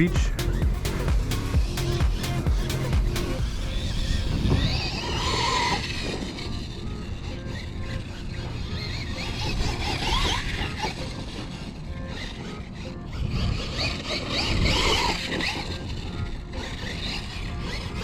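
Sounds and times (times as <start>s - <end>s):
drivetrain running noise: 0.0s - 18.0s
toy truck electric motor whining: 0.0s - 18.0s.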